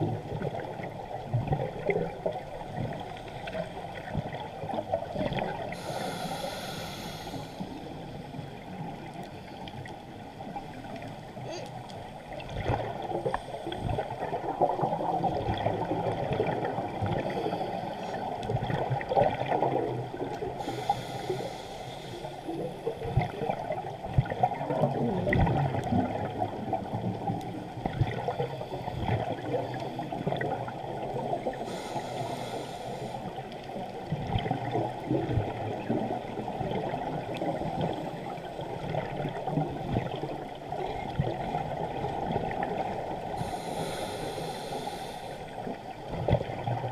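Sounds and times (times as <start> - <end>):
underwater breathing bubbles: 0.2 - 9.7, 11.3 - 27.0, 27.8 - 46.9.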